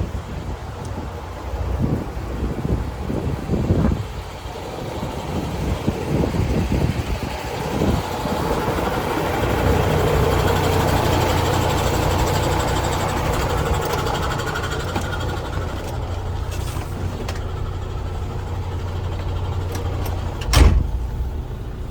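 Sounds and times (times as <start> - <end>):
wind buffeting microphone: 0.0 - 21.9
truck diesel engine running: 0.2 - 21.9.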